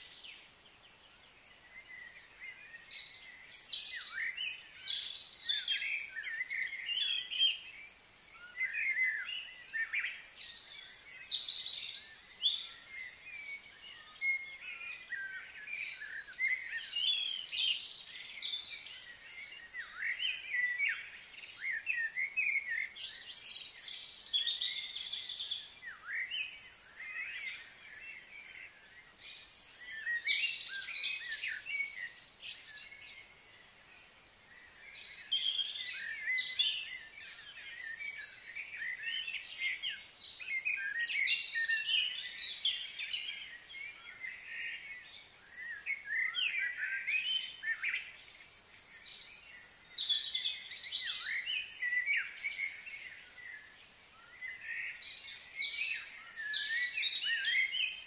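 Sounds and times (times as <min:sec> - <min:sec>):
birds chirping and singing: 0:00.0 - 0:58.0
faint steady hiss: 0:00.0 - 0:58.0.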